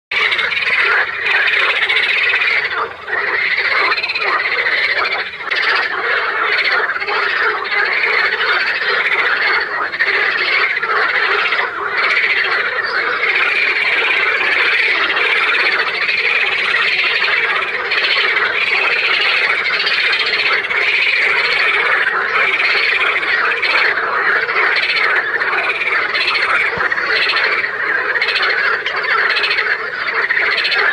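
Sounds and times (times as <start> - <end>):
frogs croaking: 0.1 - 30.9.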